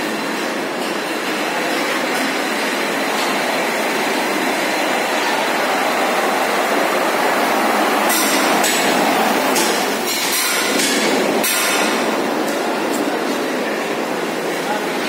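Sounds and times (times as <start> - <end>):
machinery roaring: 1.4 - 14.6.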